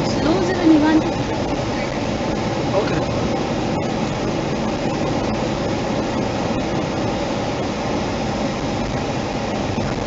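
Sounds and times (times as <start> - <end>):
car driving on road: 0.0 - 10.0.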